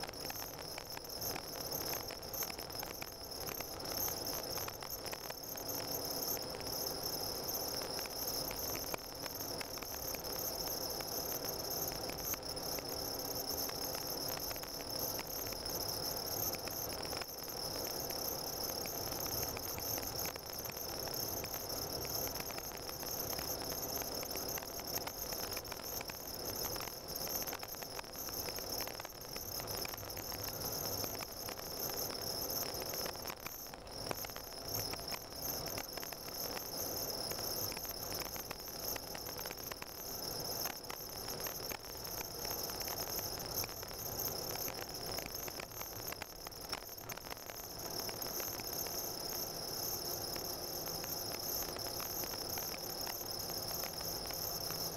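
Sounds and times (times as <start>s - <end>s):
small ticks: 0.0s - 54.9s.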